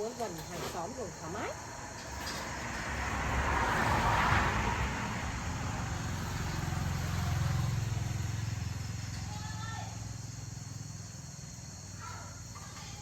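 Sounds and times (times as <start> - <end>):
vehicle engine rumbling: 0.0 - 11.8.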